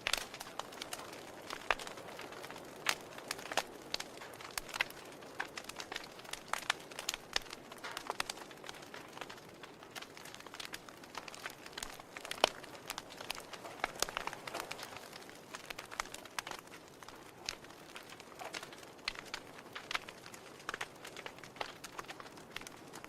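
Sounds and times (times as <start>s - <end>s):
fire hissing: 0.0s - 23.0s
logs crackling and popping: 0.0s - 23.0s.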